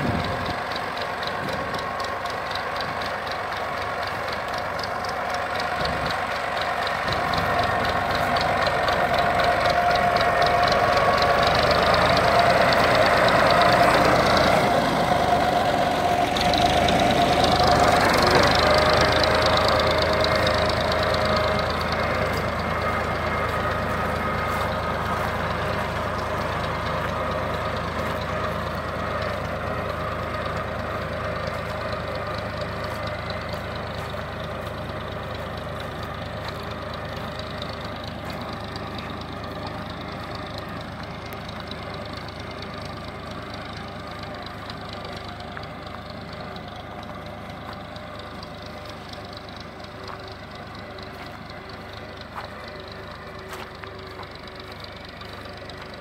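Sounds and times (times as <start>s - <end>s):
small tractor engine running: 0.0s - 56.0s.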